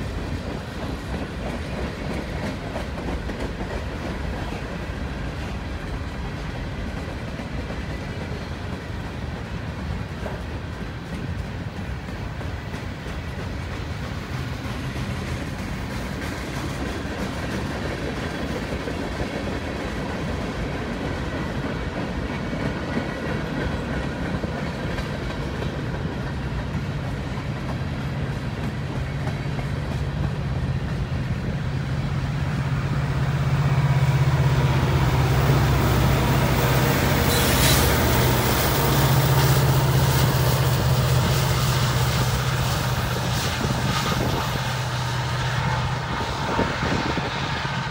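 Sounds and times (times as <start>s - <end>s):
diesel locomotive engine hum: 0.0s - 47.9s
train wheels clattering on rails: 0.0s - 47.9s.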